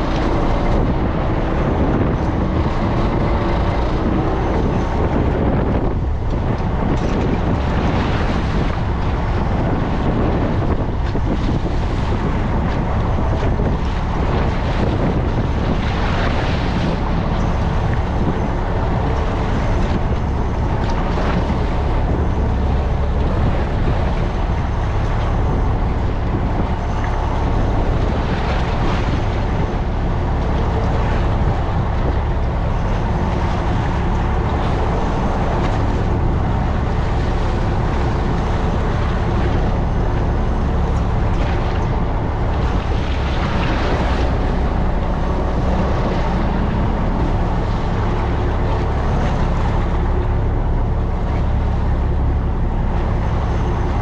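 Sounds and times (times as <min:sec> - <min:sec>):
boat engine droning: 0:00.0 - 0:54.0
water rushing past hull: 0:00.0 - 0:54.0
wind buffeting microphone: 0:00.0 - 0:54.0.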